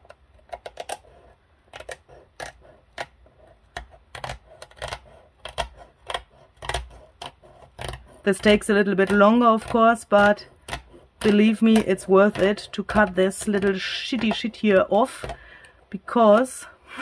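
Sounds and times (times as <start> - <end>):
scissors cutting cardboard: 0.0 - 16.7.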